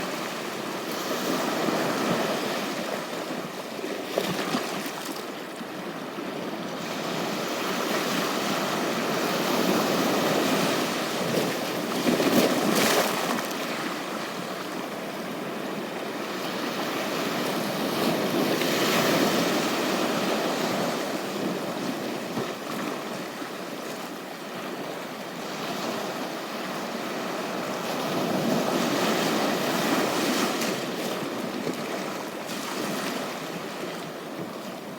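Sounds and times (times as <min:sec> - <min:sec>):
ocean waves on beach: 0:00.0 - 0:34.9.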